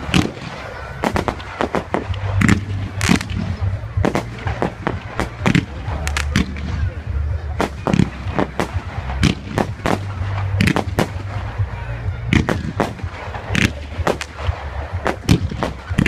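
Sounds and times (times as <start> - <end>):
fireworks bangs: 0.0 - 16.0
steady low rumble: 0.0 - 16.0.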